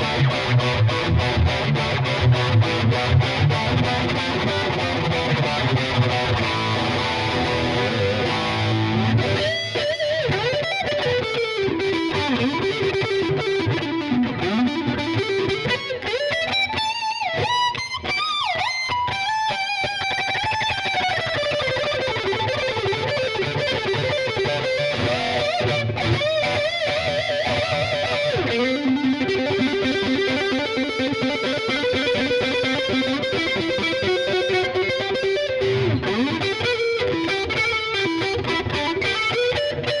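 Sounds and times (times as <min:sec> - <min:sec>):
distorted electric guitar lead: 0:00.0 - 0:40.0.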